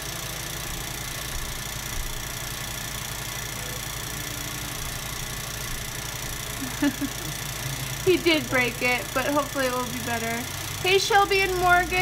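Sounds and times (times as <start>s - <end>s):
film projector whirring clatter: 0.0s - 12.0s.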